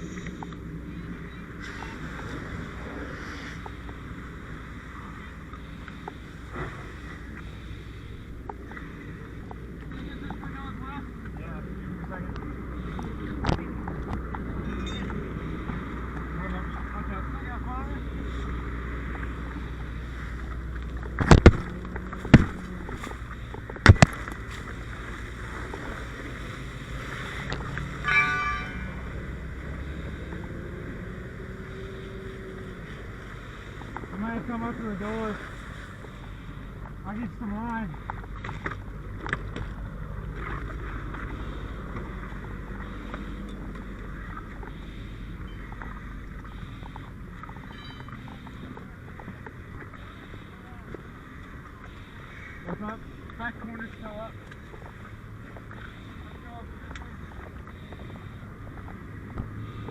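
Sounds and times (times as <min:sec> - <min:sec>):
engine rumble: 0:00.0 - 0:59.9.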